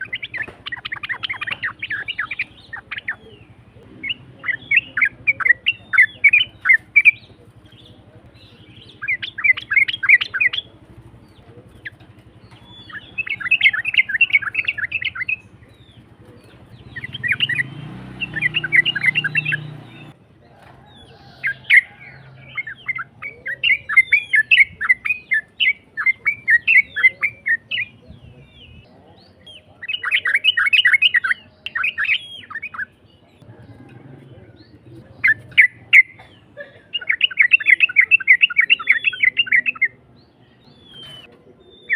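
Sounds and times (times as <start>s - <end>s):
bulbul chattering song: 0.0s - 41.9s.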